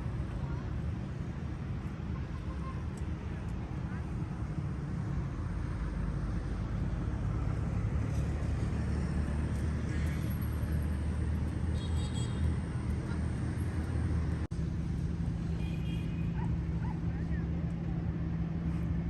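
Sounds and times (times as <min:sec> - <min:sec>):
road traffic engine hum: 0:00.0 - 0:19.0.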